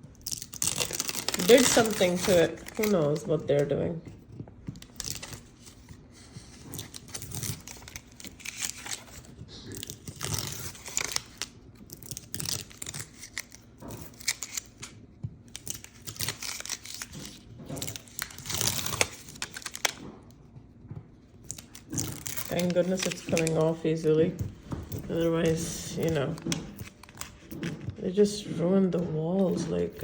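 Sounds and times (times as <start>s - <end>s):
tearing and crinkling peeling: 0.0s - 3.7s, 4.8s - 20.2s, 21.4s - 27.9s.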